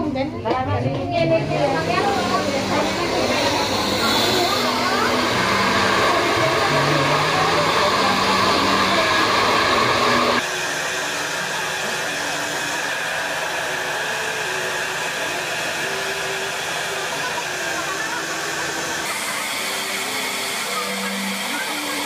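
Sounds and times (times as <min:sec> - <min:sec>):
hair dryer blowing: 0:01.2 - 0:22.0.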